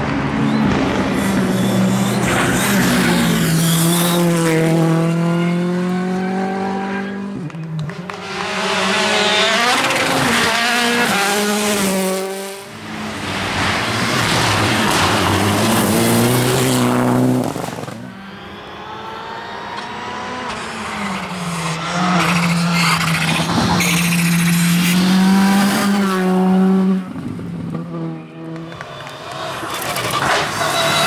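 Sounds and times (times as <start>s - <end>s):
rally cars driving past: 0.0s - 31.0s.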